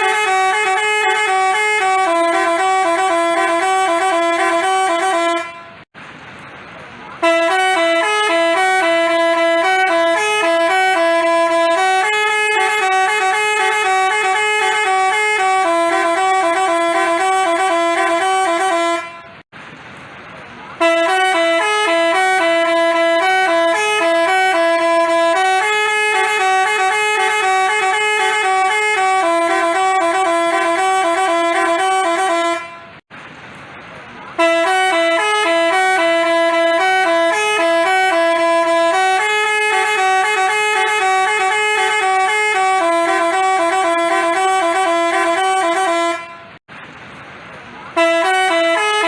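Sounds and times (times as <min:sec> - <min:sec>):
bus horn playing a tune: 0:00.0 - 0:05.9, 0:07.2 - 0:19.5, 0:20.8 - 0:33.0, 0:34.3 - 0:46.7, 0:47.9 - 0:49.0.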